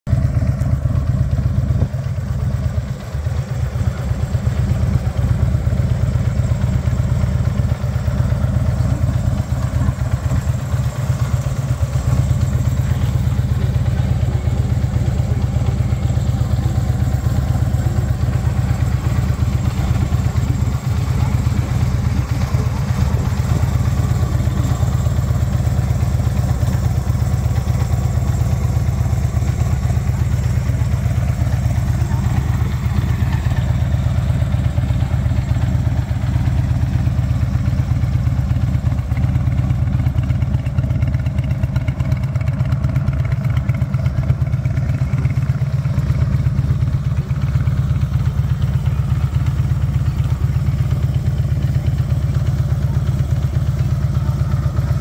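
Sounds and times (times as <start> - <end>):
motorcycle engine idling: 0.1 - 55.0.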